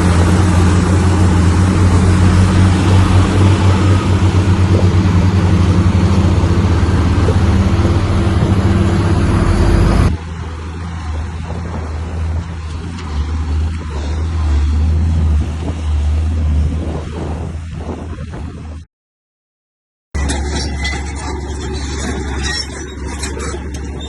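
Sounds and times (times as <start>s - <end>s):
bulldozer diesel engine running: 0.0s - 17.0s, 20.2s - 24.0s.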